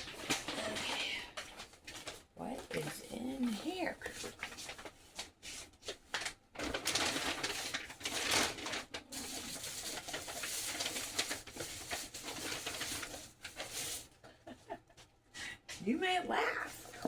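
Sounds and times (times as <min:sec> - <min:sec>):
packaging rustling and crinkling: 0:00.0 - 0:14.2.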